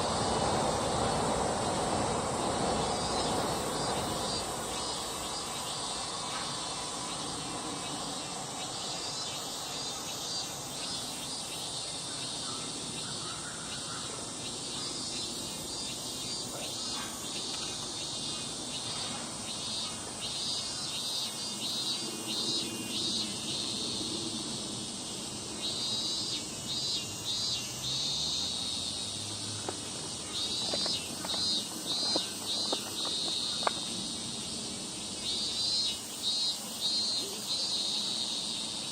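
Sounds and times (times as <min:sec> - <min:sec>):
insects chirping in pulsed trills: 0:00.0 - 0:38.9
steady insect hiss: 0:00.0 - 0:38.9.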